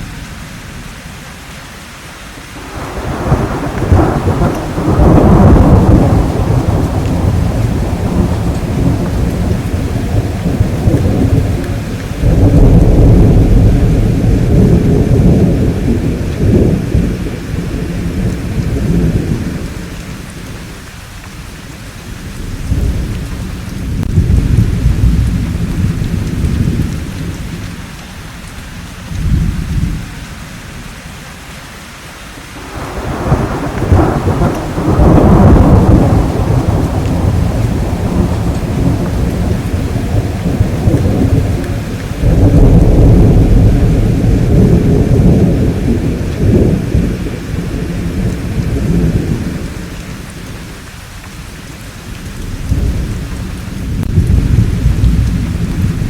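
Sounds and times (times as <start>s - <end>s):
steady rain: 0.0s - 56.0s
rolling thunder: 2.6s - 20.9s, 22.1s - 27.8s, 28.8s - 30.1s, 32.6s - 50.7s, 52.2s - 56.0s.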